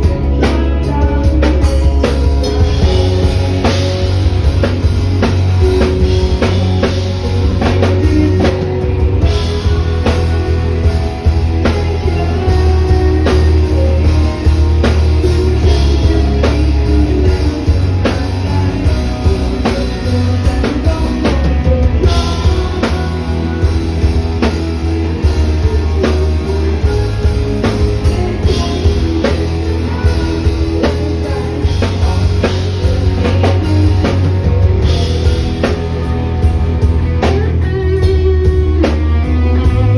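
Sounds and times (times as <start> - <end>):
person singing: 0.0 - 39.9
rock band playing: 0.0 - 39.9.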